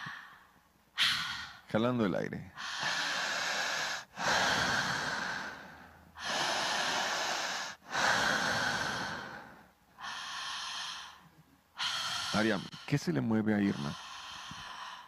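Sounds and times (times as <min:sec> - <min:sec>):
woman breathing into microphone: 0:00.0 - 0:01.7, 0:02.6 - 0:11.2, 0:11.8 - 0:15.0.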